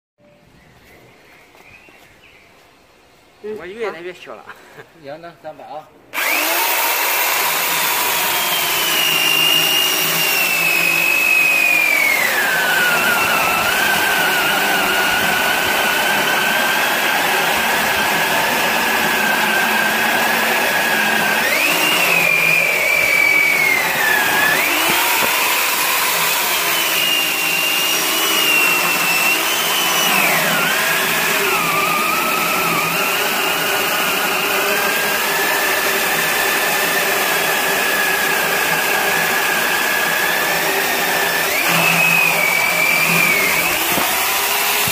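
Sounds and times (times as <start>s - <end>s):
electric chainsaw cutting log: 6.1s - 44.9s.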